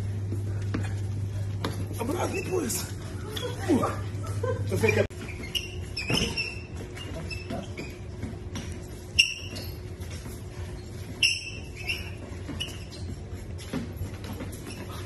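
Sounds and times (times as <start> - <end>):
sneakers squeaking on wooden floor: 0.1 - 15.0.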